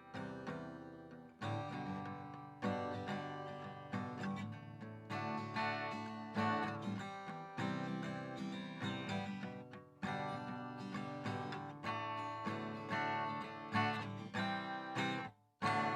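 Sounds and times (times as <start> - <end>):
guitar strummed in slow chords: 0.0 - 15.9.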